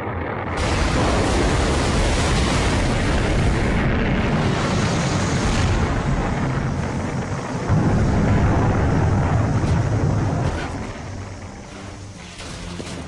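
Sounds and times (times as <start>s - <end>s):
explosion rumble: 0.0s - 13.0s.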